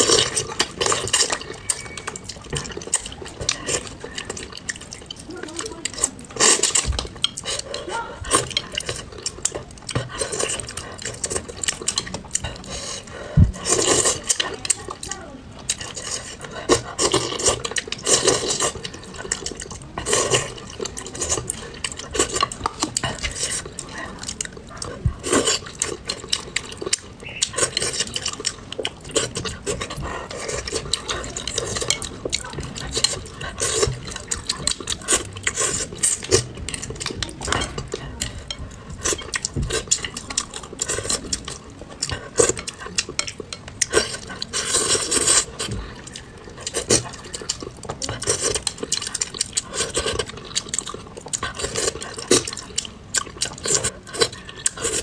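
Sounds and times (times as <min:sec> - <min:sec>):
chewing: 0:00.0 - 0:55.0
slurping: 0:00.0 - 0:55.0.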